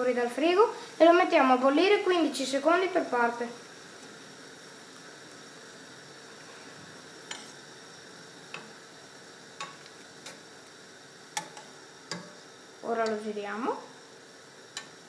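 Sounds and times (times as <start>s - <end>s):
water boiling in pot: 0.0s - 15.0s.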